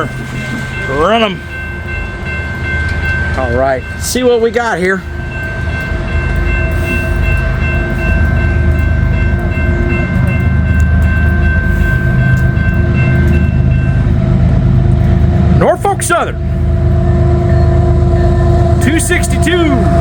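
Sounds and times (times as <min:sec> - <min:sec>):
freight train rumbling past: 0:00.0 - 0:20.0
steady high tones: 0:00.0 - 0:20.0.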